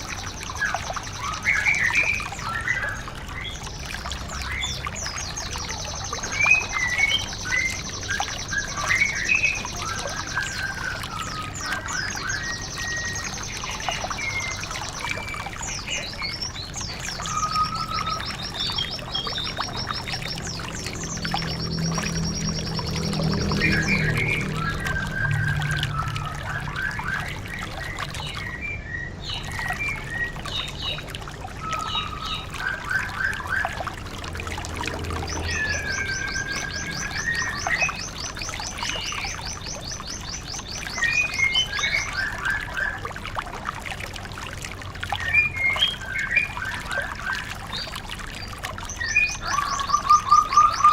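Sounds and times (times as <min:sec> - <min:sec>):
songbirds whistling and chirping: 0:00.0 - 0:50.9.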